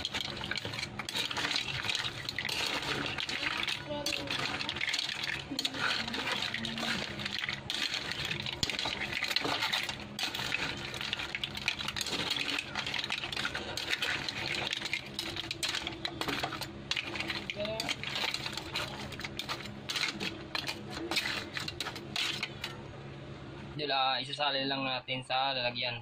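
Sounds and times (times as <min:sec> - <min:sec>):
liquid sloshing: 0:00.0 - 0:22.8
metal tongs scraping pan: 0:00.0 - 0:22.8.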